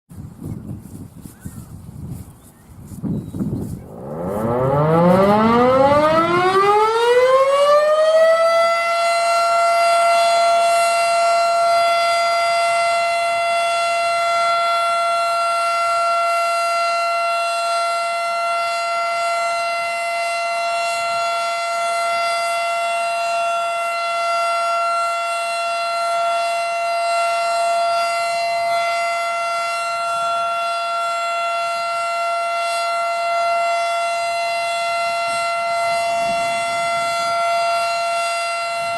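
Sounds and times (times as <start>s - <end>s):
warning siren winding up: 3.9s - 38.9s.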